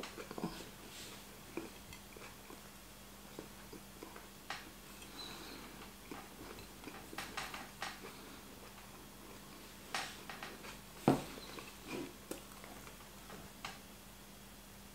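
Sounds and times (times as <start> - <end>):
person chewing: 0.0 - 13.1.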